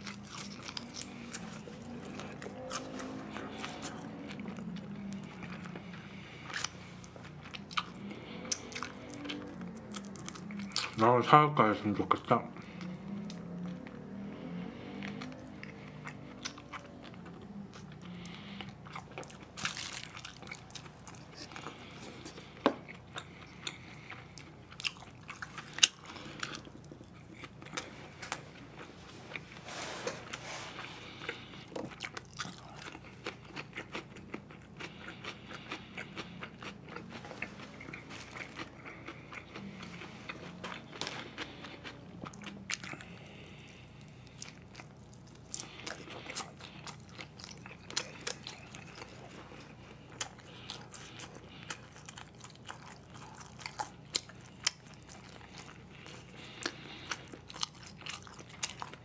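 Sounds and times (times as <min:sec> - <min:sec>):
man chewing food: 0:00.0 - 0:59.0.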